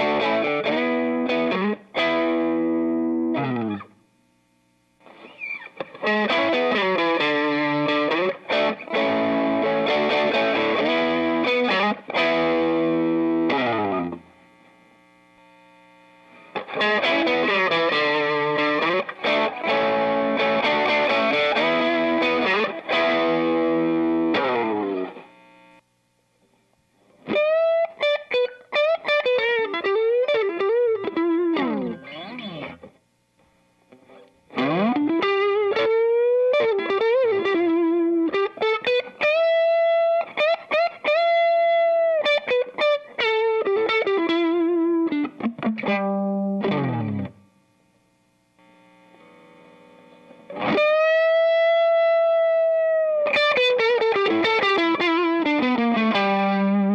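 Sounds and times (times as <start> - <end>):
overdriven electric guitar lead: 0.0 - 4.0, 5.0 - 14.4, 16.3 - 25.8, 27.2 - 33.0, 33.9 - 47.5, 49.1 - 56.9.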